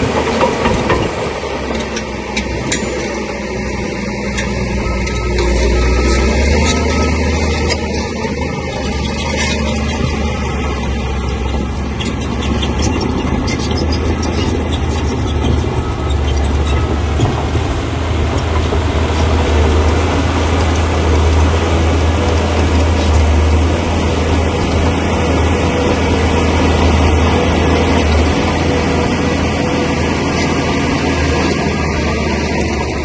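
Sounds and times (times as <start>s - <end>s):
bulldozer diesel engine humming: 0.0s - 33.0s
steel tracks clattering: 0.0s - 33.0s.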